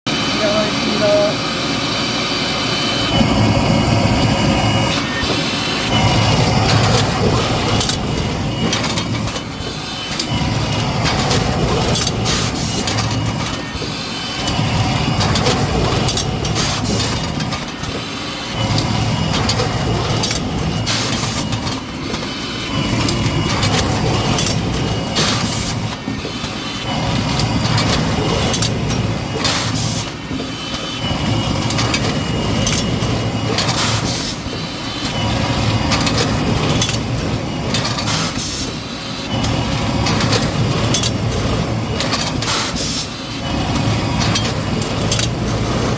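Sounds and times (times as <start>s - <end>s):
bagging machine rumble: 0.1s - 45.9s
clattering clicks and knocks: 3.1s - 45.9s.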